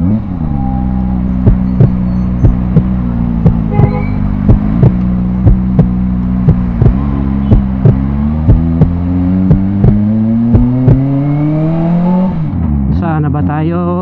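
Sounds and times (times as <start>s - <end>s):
sharp ticking: 0.0s - 12.6s
motorcycle engine revving: 0.0s - 13.0s.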